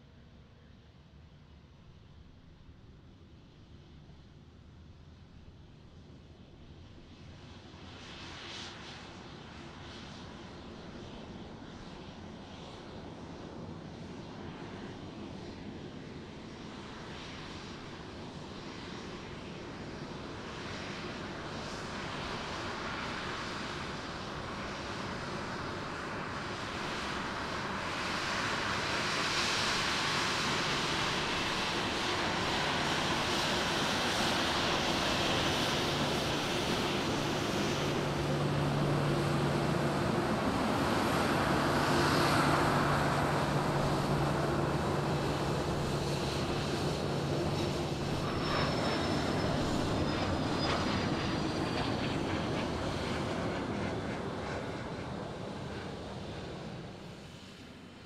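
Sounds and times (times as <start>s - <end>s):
aircraft engines roaring: 0.0s - 58.0s.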